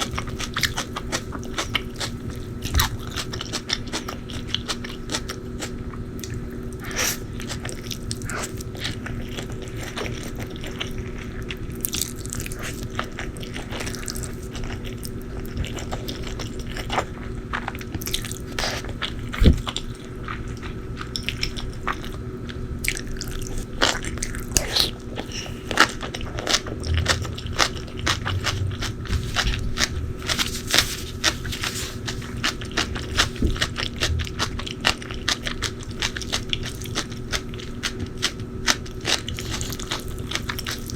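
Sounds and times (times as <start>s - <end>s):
crunching bites and chewing: 0.0s - 40.9s
low steady hum: 0.0s - 40.9s.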